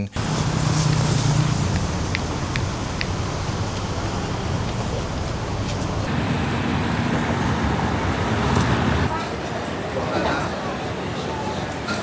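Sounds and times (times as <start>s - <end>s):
road traffic noise: 0.2s - 12.0s.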